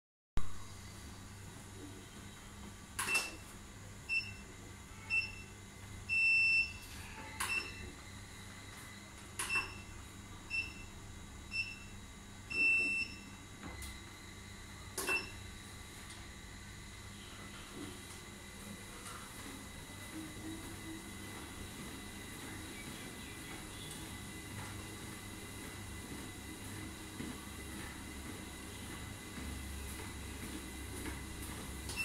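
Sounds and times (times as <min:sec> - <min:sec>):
treadmill console beeping: 0:01.7 - 0:15.7, 0:17.1 - 0:32.0.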